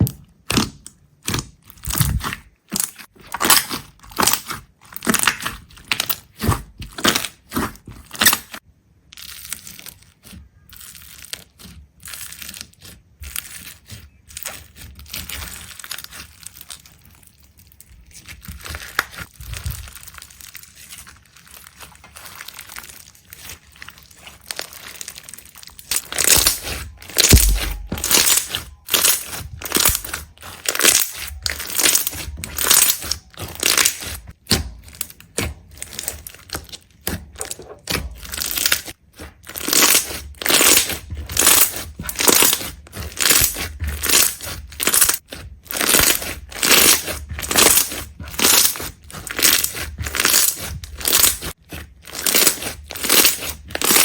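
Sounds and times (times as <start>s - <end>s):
rhythmic crunching and crinkling: 0.0s - 54.0s.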